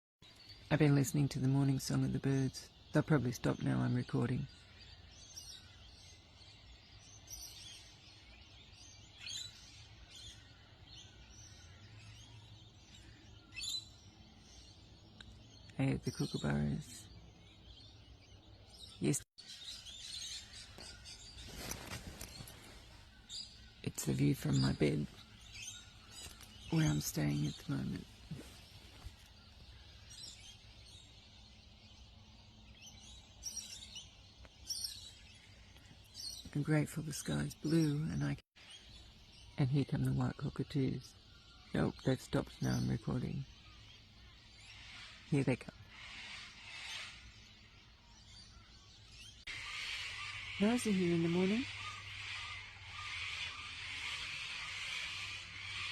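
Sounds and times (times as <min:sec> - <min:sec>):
birds chirping: 0:00.2 - 0:55.9.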